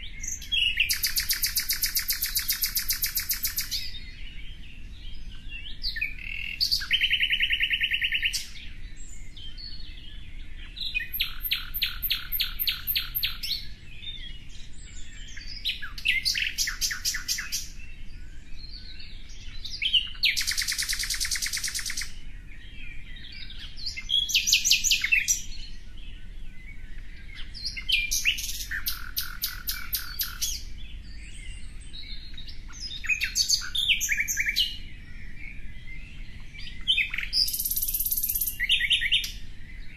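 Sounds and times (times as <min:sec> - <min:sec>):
bird singing high phrases: 0:00.0 - 0:39.9.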